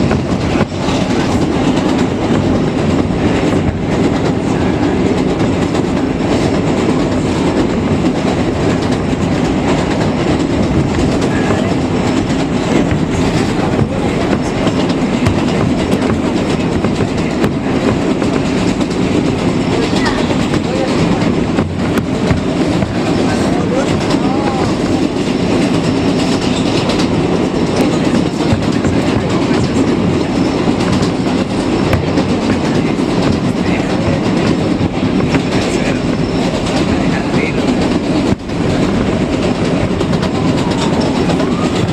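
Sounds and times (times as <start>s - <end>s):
rail joint clicks: 0.0s - 41.9s
train wheels rumbling on rail: 0.0s - 41.9s.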